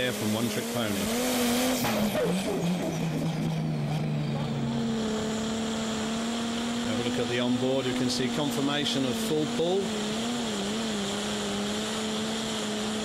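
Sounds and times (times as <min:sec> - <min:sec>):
diesel tractor engine under load: 0:00.0 - 0:13.0.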